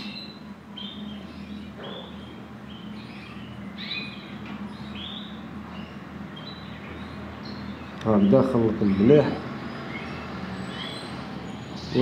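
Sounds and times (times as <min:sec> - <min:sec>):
cage birds chirping: 0:00.0 - 0:12.0.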